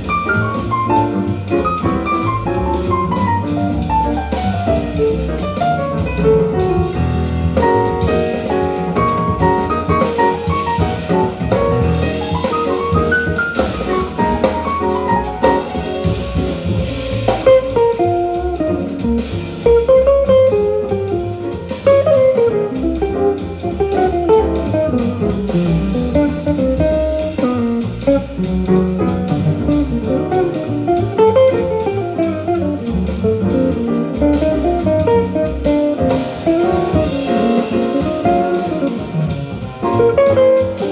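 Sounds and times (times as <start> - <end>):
double bass: 0.0 - 40.9
drum kit: 0.0 - 40.9
jazz guitar melody: 0.0 - 40.9.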